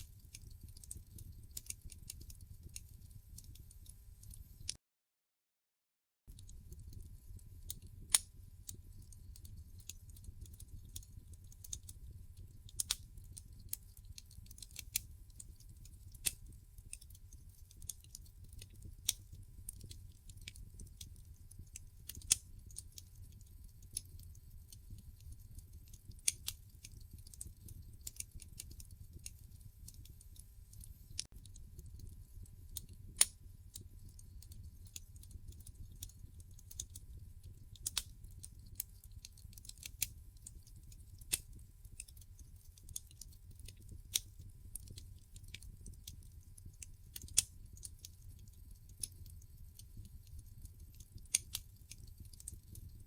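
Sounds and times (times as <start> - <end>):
wood fire crackling: 0.0 - 4.8, 6.3 - 53.0.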